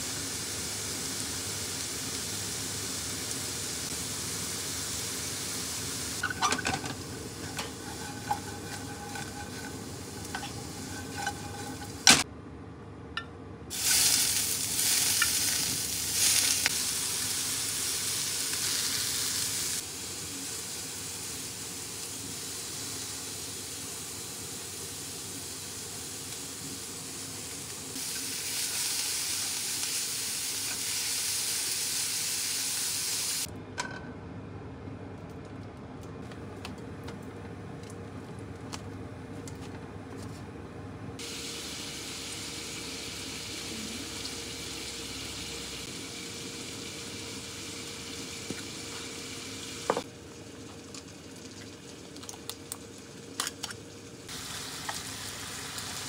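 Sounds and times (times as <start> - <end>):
food sizzling in a frying pan: 0.0 - 12.3, 13.7 - 33.5, 41.2 - 56.0.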